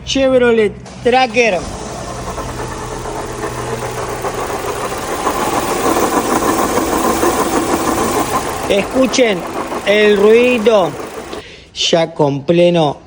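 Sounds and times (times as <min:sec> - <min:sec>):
car engine running: 0:00.9 - 0:11.4.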